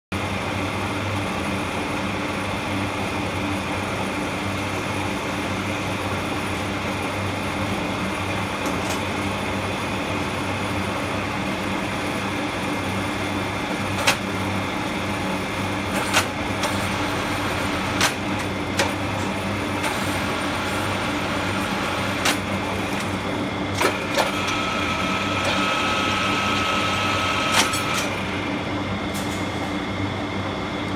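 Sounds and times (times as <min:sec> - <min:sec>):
milling machine humming and whining: 0:00.2 - 0:30.9.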